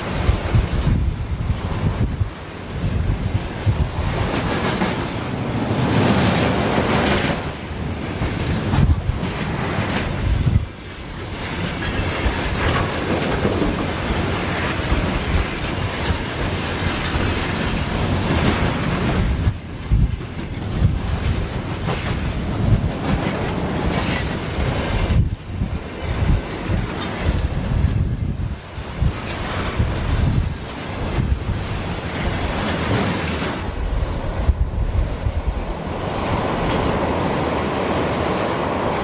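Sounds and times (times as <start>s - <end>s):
train wheels clattering on rails: 0.0s - 39.0s
wind gusting on microphone: 0.0s - 39.0s.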